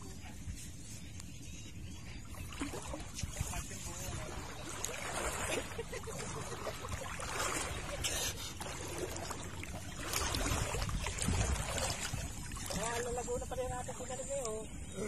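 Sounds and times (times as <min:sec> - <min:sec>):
seawater sloshing and splashing: 0:02.2 - 0:14.8.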